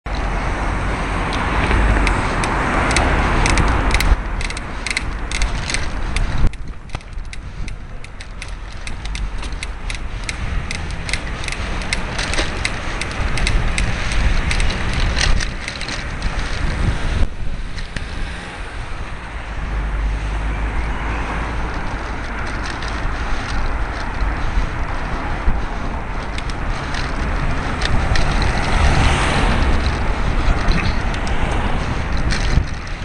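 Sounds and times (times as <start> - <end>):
low road rumble: 0.0 - 33.0
wind buffeting microphone: 0.0 - 33.0
quick clicks and rattles: 1.3 - 16.9, 21.6 - 33.0.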